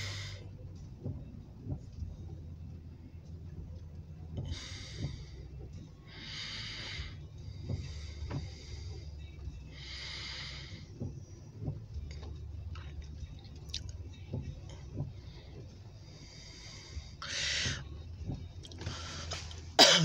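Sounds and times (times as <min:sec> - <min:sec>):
car engine idling rumble: 0:00.0 - 0:20.0
rain ticking on car: 0:00.0 - 0:20.0.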